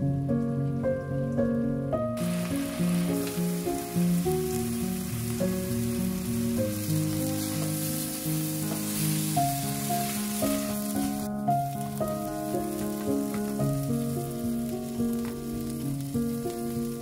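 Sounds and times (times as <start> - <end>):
background music of held notes: 0.0 - 17.0
sausage sizzling in a frying pan: 2.2 - 17.0.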